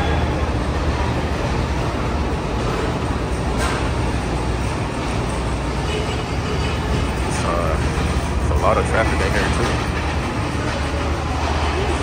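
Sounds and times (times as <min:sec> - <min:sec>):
idling trucks rumble: 0:00.0 - 0:12.0
loading-dock machinery: 0:00.0 - 0:12.0.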